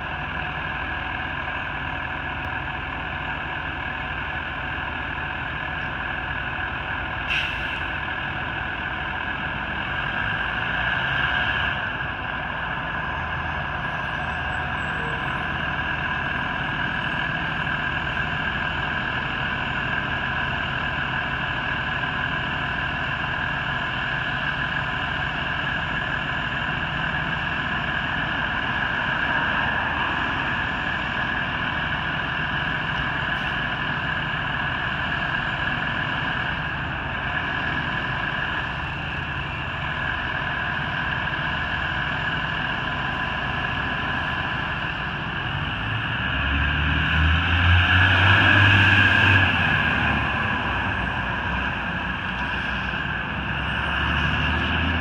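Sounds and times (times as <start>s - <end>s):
diesel truck engine idling: 0.0s - 47.5s, 49.2s - 55.0s.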